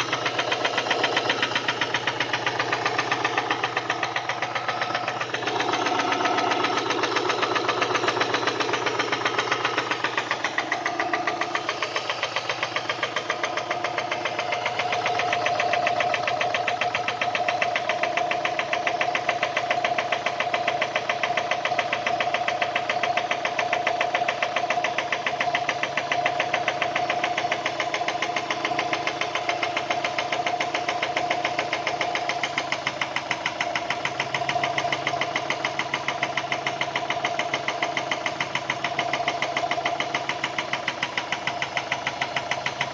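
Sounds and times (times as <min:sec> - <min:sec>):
engine with rapid knocking: 0:00.0 - 0:42.9.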